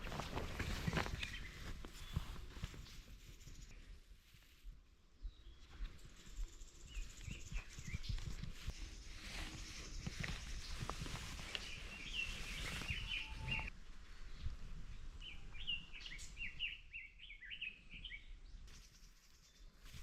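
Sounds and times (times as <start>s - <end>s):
songbird chirping: 0.0s - 20.0s.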